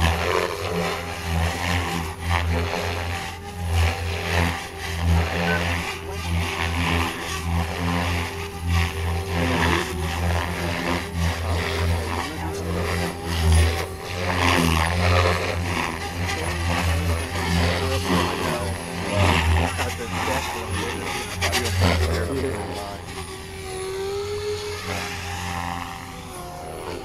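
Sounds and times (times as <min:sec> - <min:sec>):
rc helicopter rotor and motor whine: 0:00.0 - 0:27.0.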